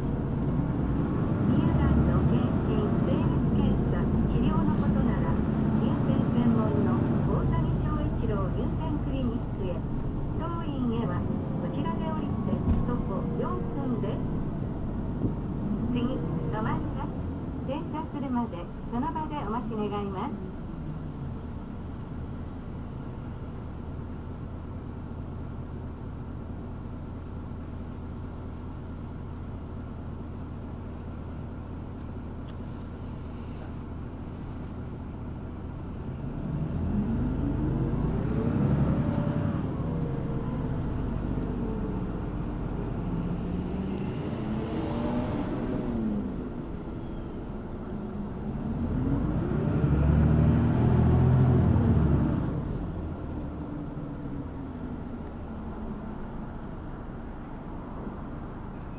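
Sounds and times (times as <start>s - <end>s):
bus engine idling and revving: 0.0s - 58.9s.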